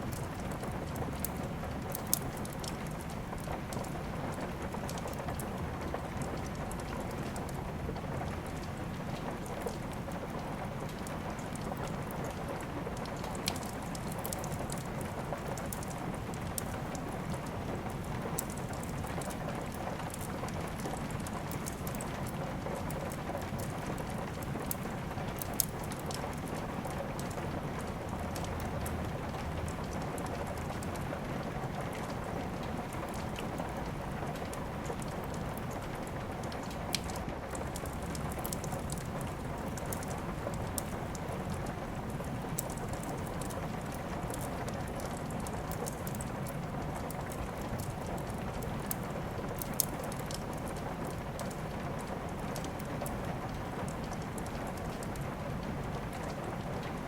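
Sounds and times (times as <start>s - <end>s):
steady rainfall: 0.0s - 57.0s
wood fire popping: 0.0s - 57.0s.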